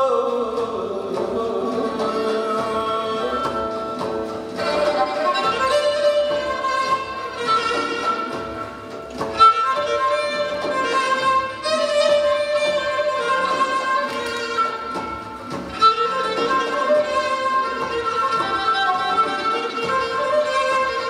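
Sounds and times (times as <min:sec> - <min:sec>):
traditional ensemble melody: 0:00.0 - 0:21.0
zither plucking: 0:00.1 - 0:21.0.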